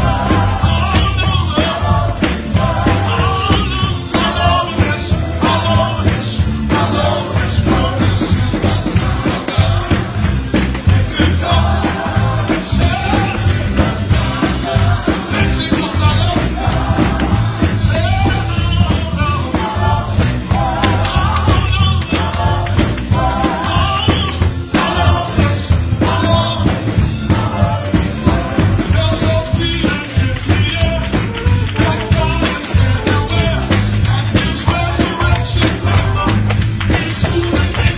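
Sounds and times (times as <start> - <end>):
gospel voices singing over beat: 0.0 - 37.9
heavy bass: 0.0 - 37.9
tambourine shaking: 0.0 - 37.9.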